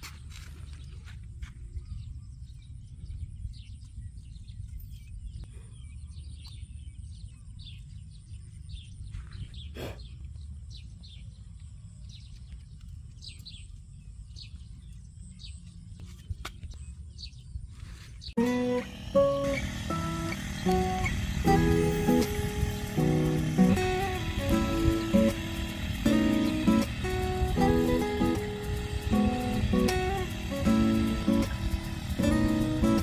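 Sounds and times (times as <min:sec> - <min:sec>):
birds chirping: 0:00.0 - 0:33.0
steady low rumble: 0:00.0 - 0:33.0.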